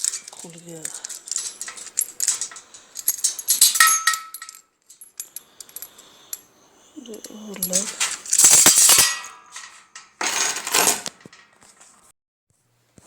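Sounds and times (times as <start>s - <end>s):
padlock and keys clinking: 0.0s - 11.8s.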